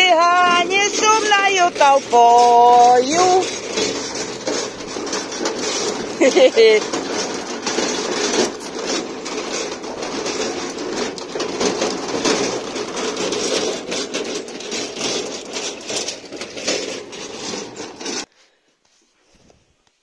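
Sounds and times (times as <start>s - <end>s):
cart rattling: 0.0s - 18.3s
cart wheels crunching gravel: 0.0s - 18.3s.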